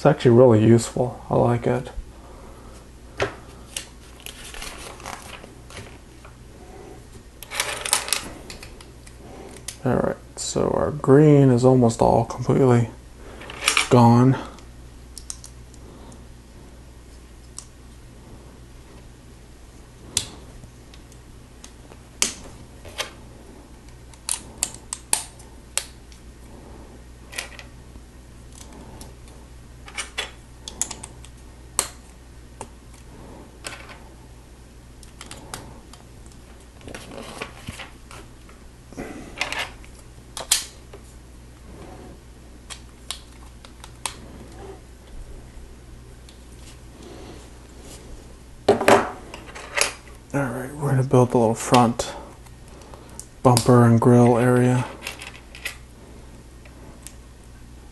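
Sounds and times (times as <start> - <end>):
low steady hum: 0.0 - 57.9.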